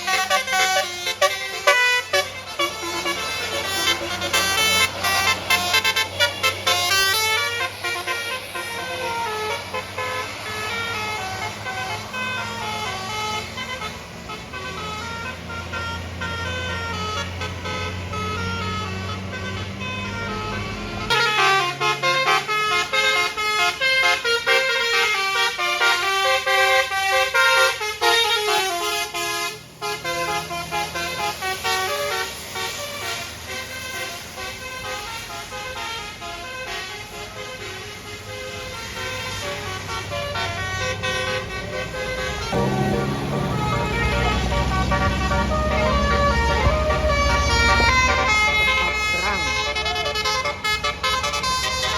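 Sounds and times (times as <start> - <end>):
bus engine drone: 0.0 - 51.9
melodic air horn tune: 0.0 - 51.9.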